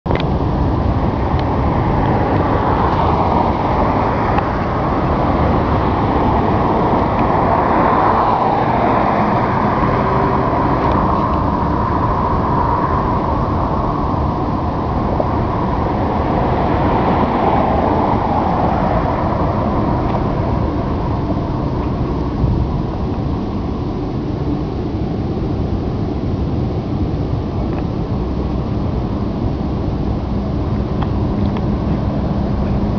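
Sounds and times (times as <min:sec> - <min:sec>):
jet engines rushing: 0:00.1 - 0:32.9.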